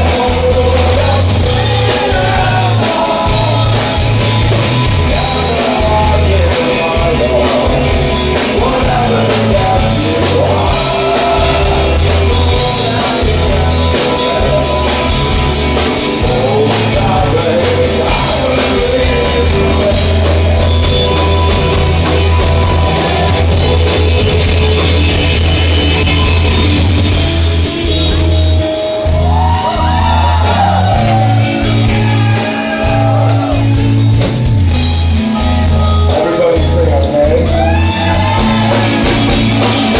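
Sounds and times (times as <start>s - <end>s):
person singing: 0.0s - 25.0s, 27.6s - 34.0s, 35.3s - 39.9s
live band playing: 0.0s - 39.9s
sustained bass notes: 0.0s - 39.9s.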